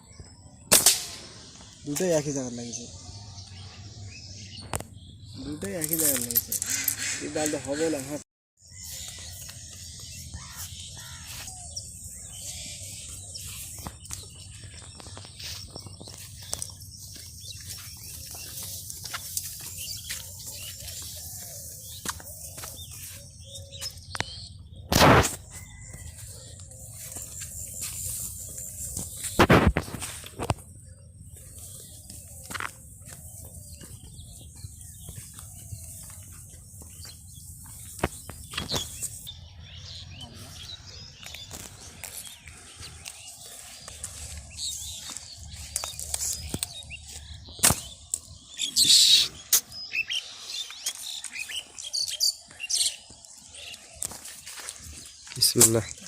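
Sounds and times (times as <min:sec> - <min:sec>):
bird chirps: 0:00.0 - 0:56.0.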